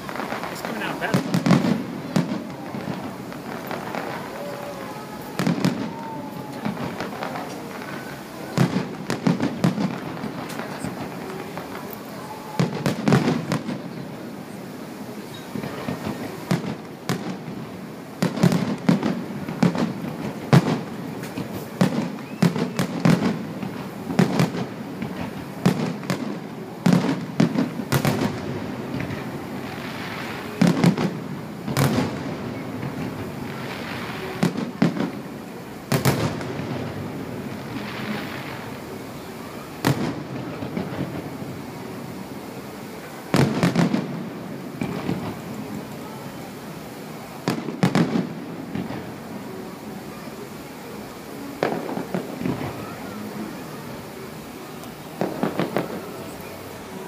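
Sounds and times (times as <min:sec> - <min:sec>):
firework shells bursting: 0:00.0 - 0:46.0, 0:54.8 - 0:57.0.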